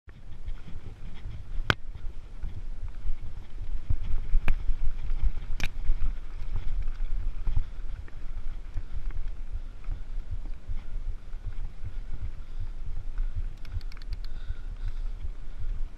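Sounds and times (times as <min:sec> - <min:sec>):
bike tyres rumbling on dirt: 0:00.1 - 0:13.6, 0:14.3 - 0:15.9.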